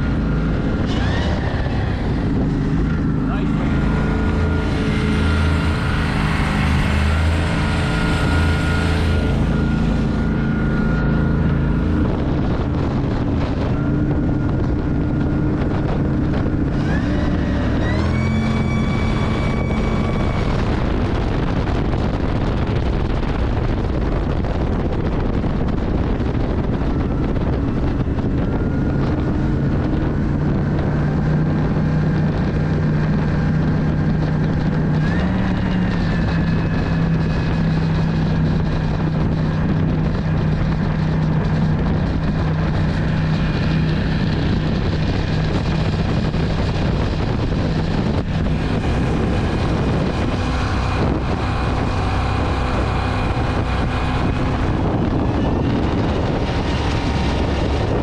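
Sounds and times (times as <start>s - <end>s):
boat engine running: 0.0s - 58.0s
water rushing: 0.0s - 58.0s
wind buffeting microphone: 0.0s - 58.0s.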